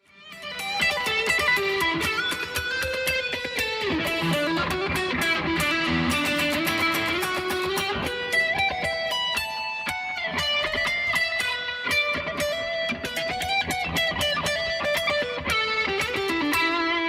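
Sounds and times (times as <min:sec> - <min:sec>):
fast plucked melody: 0:00.6 - 0:17.0.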